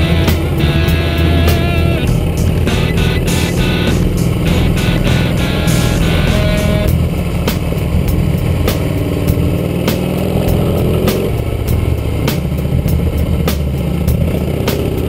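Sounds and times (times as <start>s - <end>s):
background music with steady beat: 0.0s - 15.0s
motorcycle engine running: 0.0s - 15.0s.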